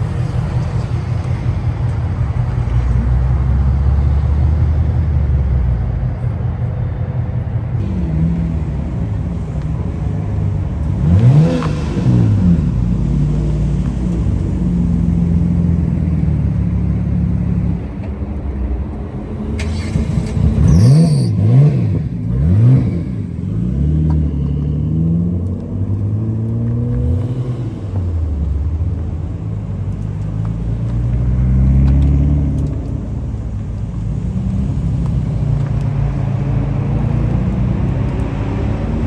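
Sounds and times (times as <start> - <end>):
car engines idling and revving: 0.0 - 39.0.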